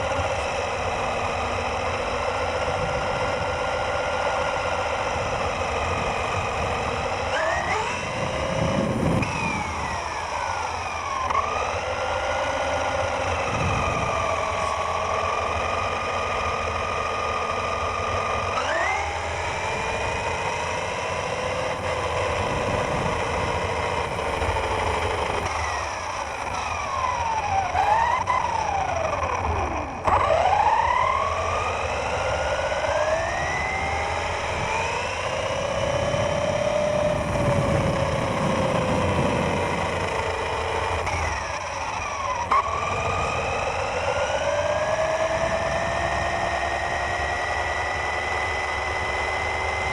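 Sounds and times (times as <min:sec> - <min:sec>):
remote control car motor whining: 0:00.0 - 0:49.9.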